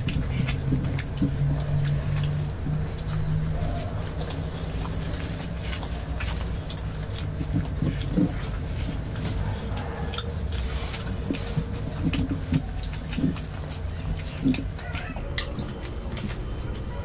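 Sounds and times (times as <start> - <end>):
chewing: 0.0 - 17.0
mouth smacks and clicks: 0.0 - 17.0
wet squishing food: 0.0 - 17.0.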